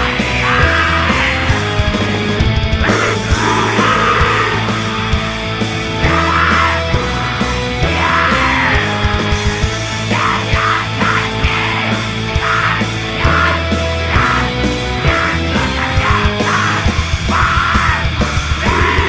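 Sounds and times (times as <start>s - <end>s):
distorted guitars: 0.0s - 19.0s
drums: 0.0s - 19.0s
harsh shouted vocals: 0.0s - 19.0s.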